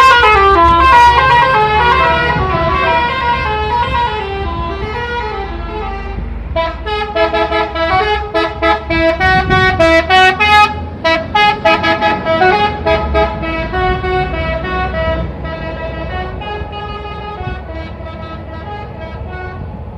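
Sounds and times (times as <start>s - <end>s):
multi-tone bus air horn melody: 0.0s - 19.8s.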